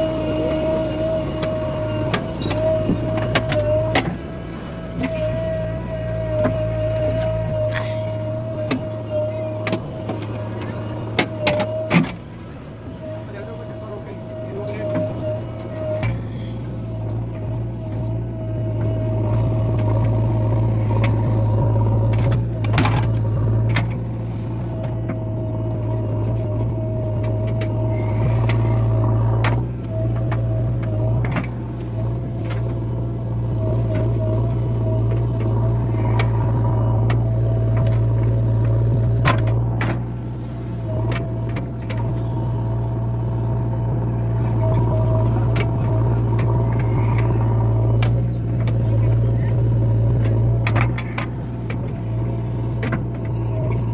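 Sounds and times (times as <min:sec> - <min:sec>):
digger diesel engine running: 0:00.0 - 0:53.9
steady whine: 0:00.0 - 0:53.9.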